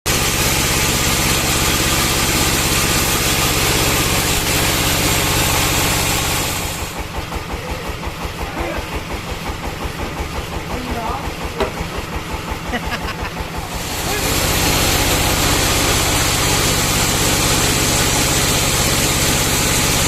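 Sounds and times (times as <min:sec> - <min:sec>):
engine running: 0:00.1 - 0:20.0.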